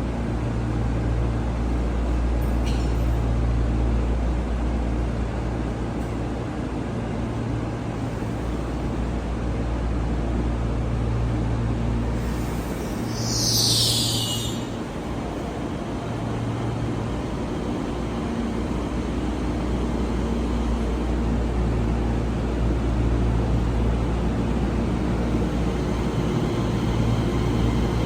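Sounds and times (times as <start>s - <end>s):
train rumbling by: 0.0s - 28.0s.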